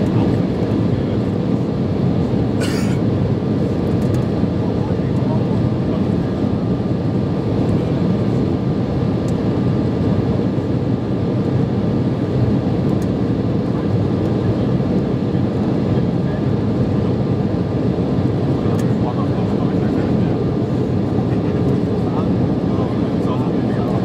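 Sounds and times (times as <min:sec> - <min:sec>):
jet engines at climb power: 0:00.0 - 0:24.0.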